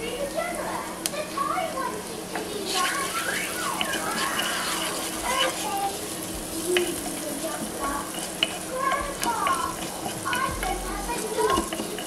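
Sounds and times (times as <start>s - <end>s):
background voices: 0.0s - 12.0s
onion sizzling in oil: 0.0s - 12.0s
wooden spoon stirring in pot: 1.9s - 12.0s.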